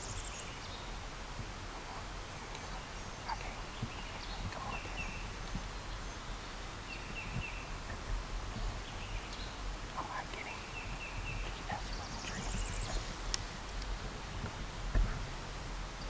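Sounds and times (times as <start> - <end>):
low wind rumble: 0.0 - 16.0
songbirds calling: 0.0 - 16.0.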